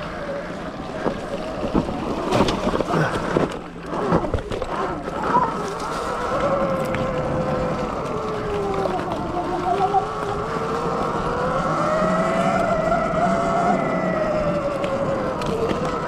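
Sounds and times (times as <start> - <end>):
electric motor whining: 0.0 - 16.0
wind and trail noise: 0.0 - 16.0.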